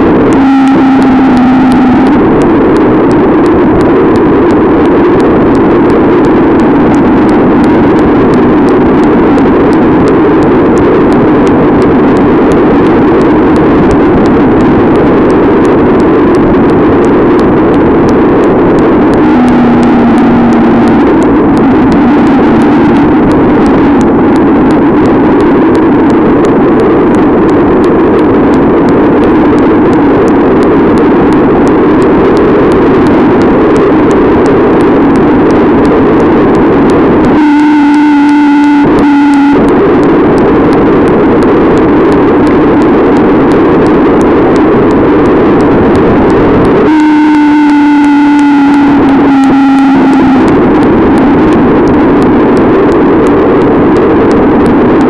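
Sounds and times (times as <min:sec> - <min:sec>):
steady low hum: 0:00.0 - 0:55.0
wind buffeting microphone: 0:00.0 - 0:55.0.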